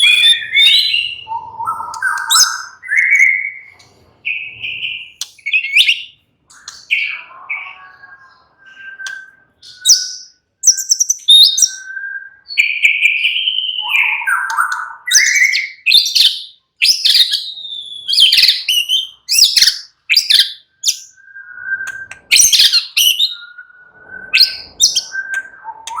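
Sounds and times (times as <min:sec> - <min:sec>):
songbird singing whistles: 0:00.0 - 0:26.0.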